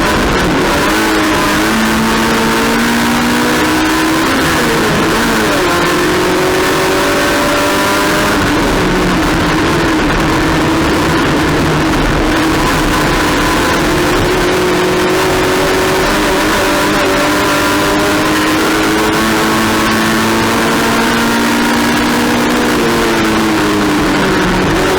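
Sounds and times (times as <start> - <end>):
race car engine: 0.0 - 24.9
road and wind noise: 0.0 - 24.9.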